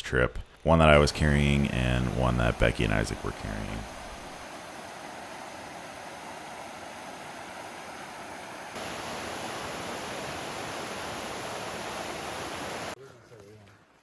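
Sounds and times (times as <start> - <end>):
steady outdoor rushing noise: 0.4 - 13.0.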